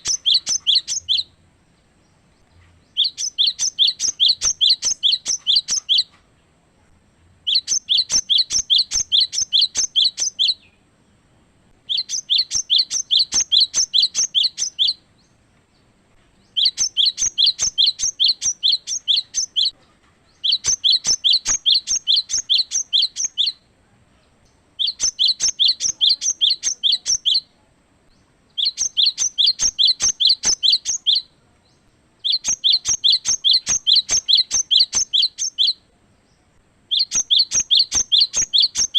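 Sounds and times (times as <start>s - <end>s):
bird whistling song: 0.0s - 1.4s, 2.8s - 6.2s, 7.4s - 10.8s, 11.8s - 15.4s, 16.4s - 23.7s, 24.8s - 27.5s, 28.1s - 35.8s, 36.9s - 38.9s.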